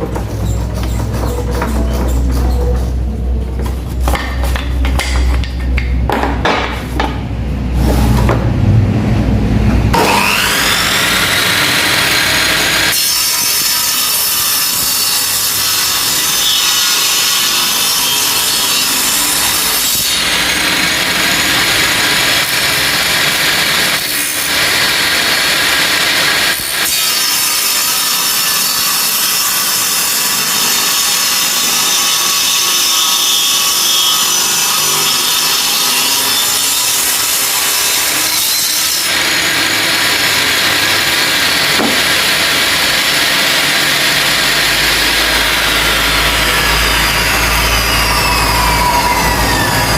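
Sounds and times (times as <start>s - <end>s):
circular saw running: 9.8s - 49.9s.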